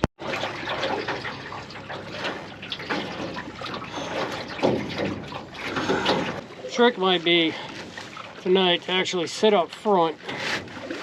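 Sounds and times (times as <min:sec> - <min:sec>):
canoe paddle dipping and dripping: 0:00.0 - 0:11.0
water moving along a hull: 0:00.0 - 0:11.0.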